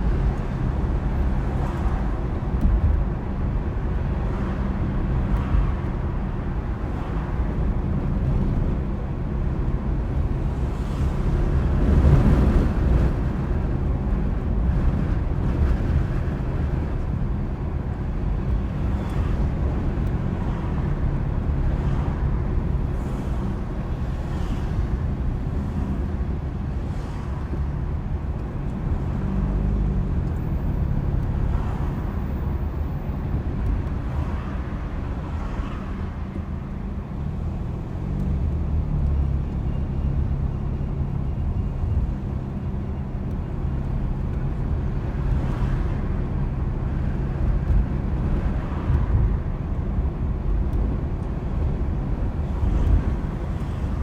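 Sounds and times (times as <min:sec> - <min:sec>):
car engine hum: 0:00.0 - 0:54.0
low road rumble: 0:00.0 - 0:54.0.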